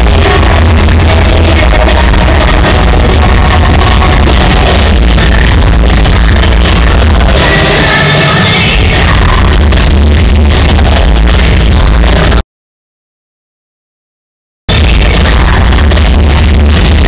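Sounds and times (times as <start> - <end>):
loud music with heavy bass beat: 0.0 - 12.4, 14.7 - 17.0.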